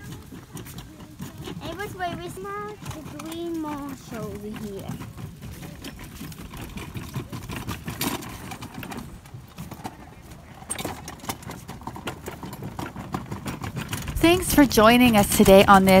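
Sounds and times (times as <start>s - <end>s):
footsteps on wooden boardwalk: 0.0s - 16.0s
wagon wheels on wooden planks: 0.0s - 16.0s.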